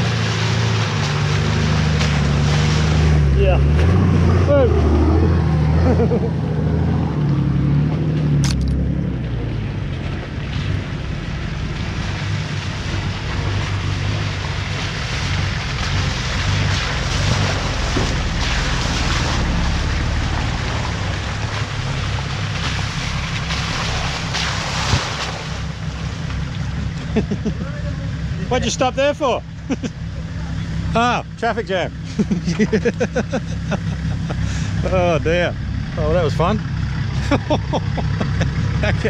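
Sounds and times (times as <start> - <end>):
engine running steadily: 0.0 - 39.0.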